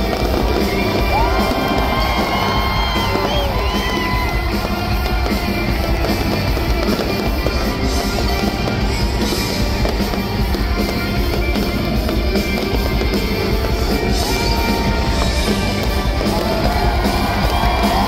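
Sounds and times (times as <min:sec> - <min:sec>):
fireworks bursting: 0:00.0 - 0:18.0
loud music: 0:00.0 - 0:18.0.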